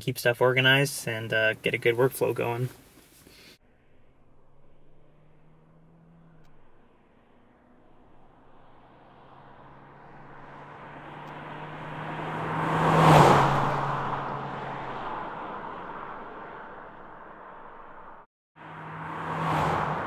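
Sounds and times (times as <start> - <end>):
car driving past: 3.6 - 20.0.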